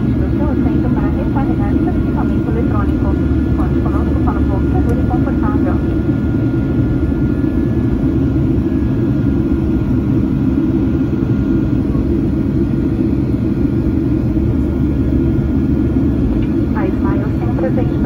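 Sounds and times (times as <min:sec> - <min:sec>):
jet engine rumble and rushing air: 0:00.0 - 0:18.0
thin steady whine: 0:00.0 - 0:18.0.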